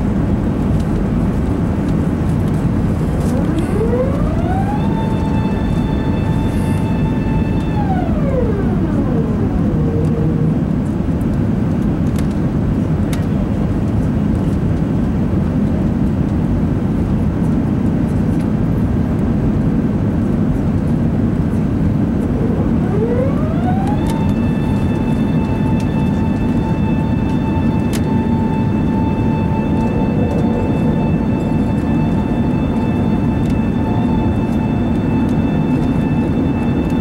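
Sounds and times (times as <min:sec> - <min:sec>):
airplane cabin noise: 0:00.0 - 0:37.0
whining jet engine: 0:00.0 - 0:37.0.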